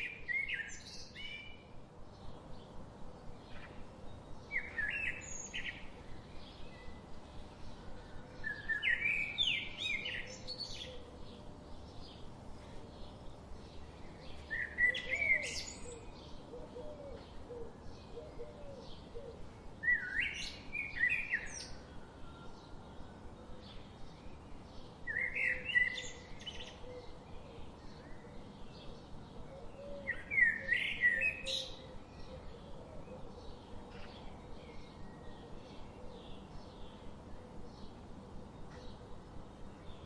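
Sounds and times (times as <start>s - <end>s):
loud birdsong phrase: 0.0s - 40.0s.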